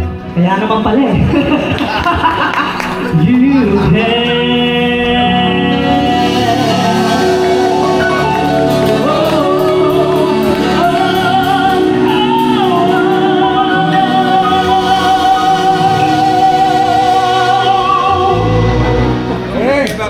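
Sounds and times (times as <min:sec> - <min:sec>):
instrumental backing: 0:00.0 - 0:20.0
person singing: 0:02.8 - 0:19.6.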